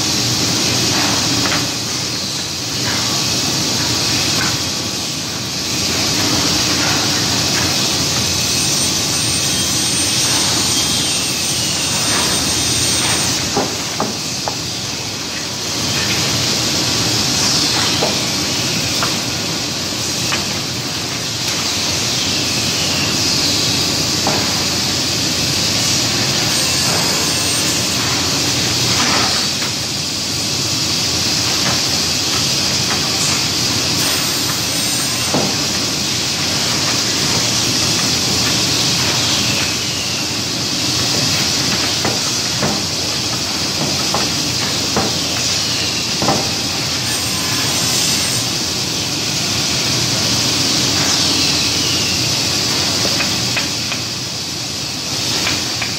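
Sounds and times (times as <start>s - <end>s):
machinery hissing: 0.0s - 55.9s.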